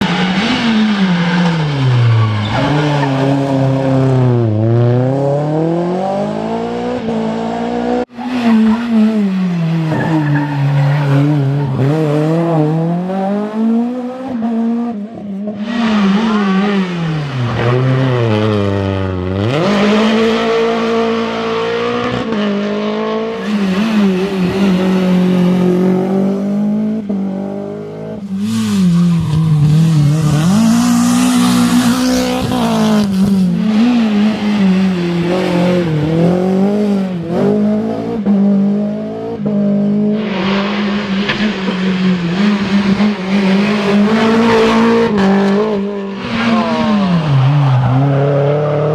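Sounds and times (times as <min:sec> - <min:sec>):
rally car engine revving: 0:00.0 - 0:48.9.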